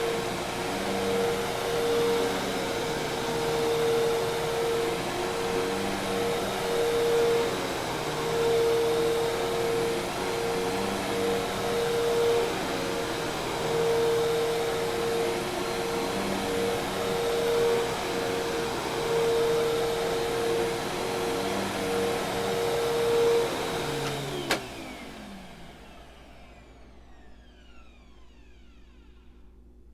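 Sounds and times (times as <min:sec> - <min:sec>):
vacuum cleaner motor whirring: 0:00.0 - 0:29.7.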